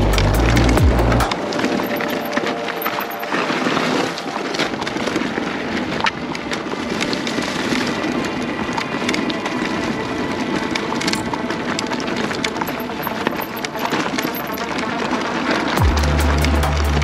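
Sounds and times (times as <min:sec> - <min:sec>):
bike tyres on dirt trail: 0:00.0 - 0:17.0
stones and bike rattling: 0:00.0 - 0:17.0.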